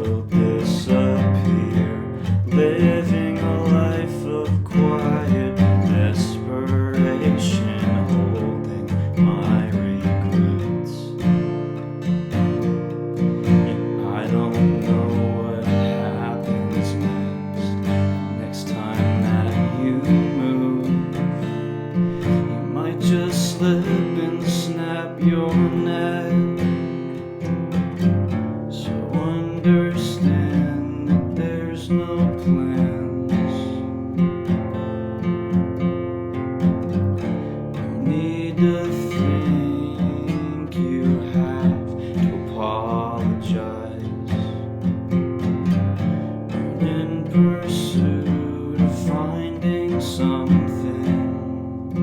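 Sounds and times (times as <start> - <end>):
strummed acoustic guitar: 0.0 - 52.0.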